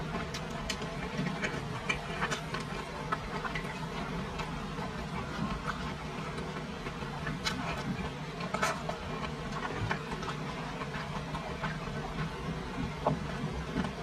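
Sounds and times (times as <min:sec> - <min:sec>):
chewing with wet mouth clicks: 0:00.0 - 0:14.0.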